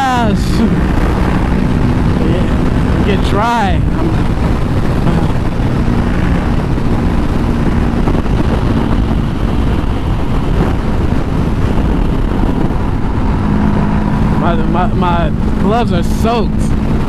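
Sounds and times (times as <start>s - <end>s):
motorcycle engine droning: 0.0s - 17.0s
wind rushing on microphone: 0.0s - 17.0s.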